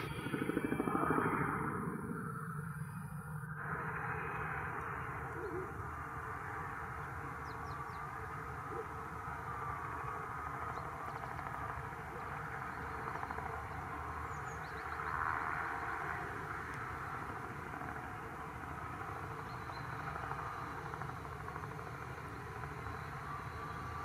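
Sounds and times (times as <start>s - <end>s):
distant jet engine drone: 0.0s - 24.0s.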